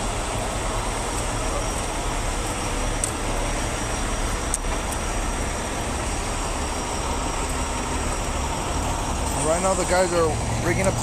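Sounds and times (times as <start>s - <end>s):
diesel truck engines running: 0.0s - 11.0s.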